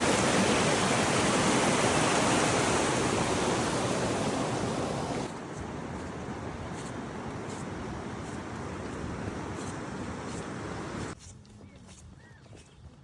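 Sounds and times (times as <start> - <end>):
rushing water: 0.0 - 11.2.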